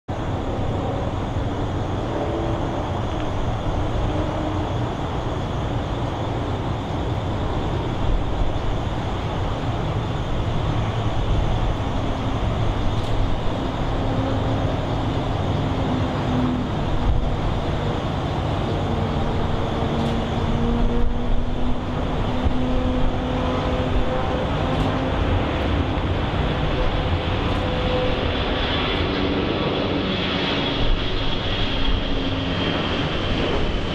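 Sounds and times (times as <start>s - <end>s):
jet engines at takeoff: 0.1s - 33.9s.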